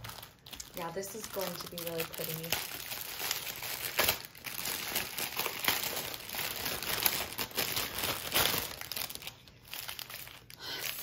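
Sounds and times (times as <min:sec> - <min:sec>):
plastic crinkling: 0:00.0 - 0:11.0.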